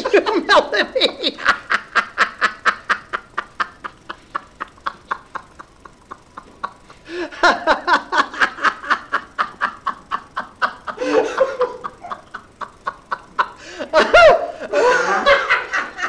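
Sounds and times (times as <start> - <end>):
man laughing hard: 0.0 - 16.0.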